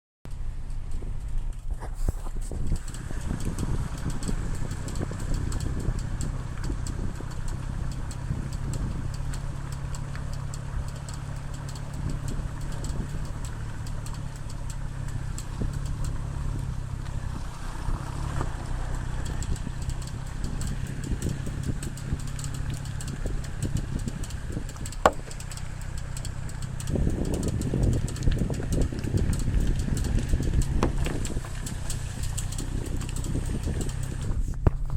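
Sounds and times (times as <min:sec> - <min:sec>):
car engine running: 0:00.3 - 0:34.9
road noise: 0:00.3 - 0:34.9
rapid repeating tick: 0:02.6 - 0:34.4.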